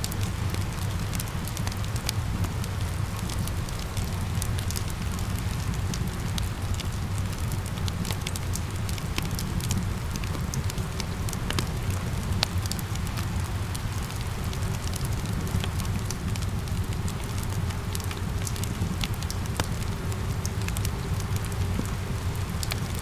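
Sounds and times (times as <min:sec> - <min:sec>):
rain hissing: 0:00.0 - 0:23.0
wood fire crackling and popping: 0:00.0 - 0:23.0.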